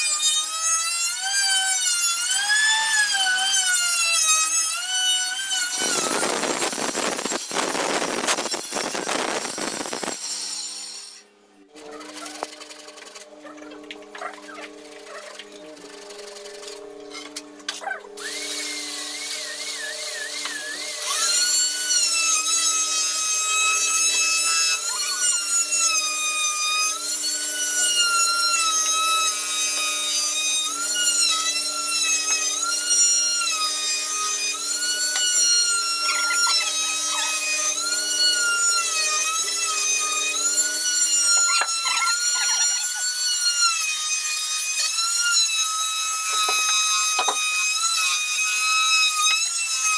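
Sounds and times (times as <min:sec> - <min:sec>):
power tool cutting wood: 0:00.0 - 0:49.9.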